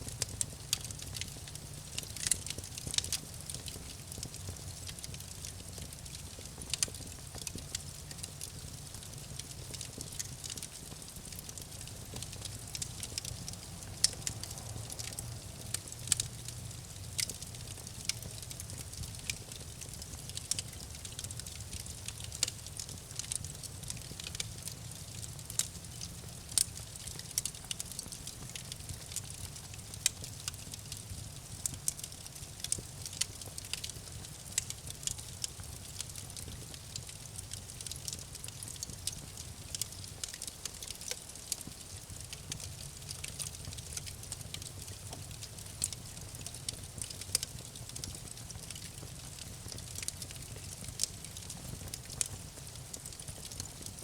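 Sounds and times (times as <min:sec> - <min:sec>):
campfire flame rumble: 0:00.0 - 0:54.0
wood crackling and popping: 0:00.0 - 0:54.0.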